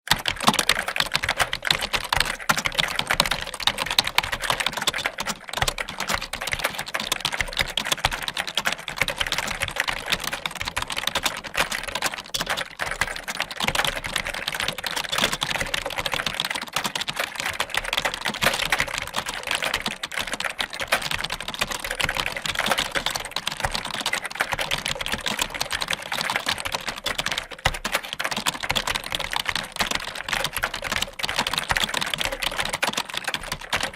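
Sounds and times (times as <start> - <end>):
fast keyboard typing: 0.0 - 33.9.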